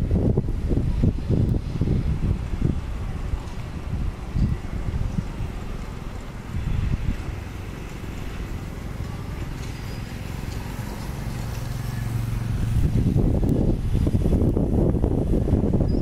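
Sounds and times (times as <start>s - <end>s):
excavator diesel engine running: 1.8s - 14.8s.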